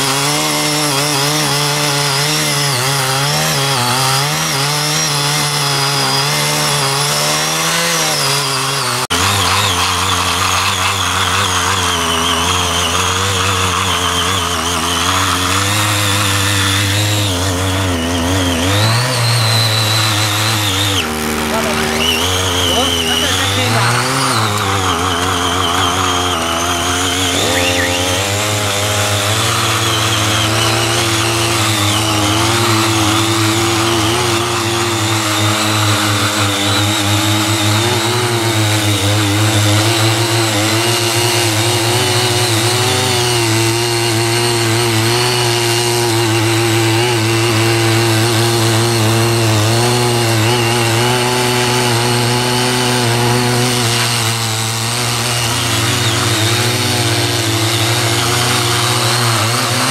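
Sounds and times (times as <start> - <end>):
garden tiller engine running: 0.0 - 59.9.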